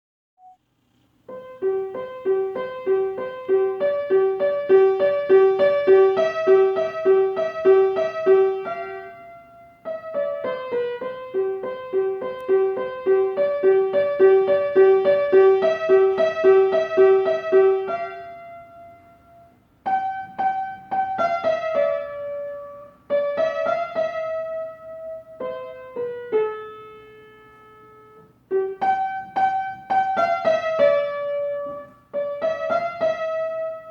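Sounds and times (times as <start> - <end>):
solo piano melody: 1.2 - 33.9.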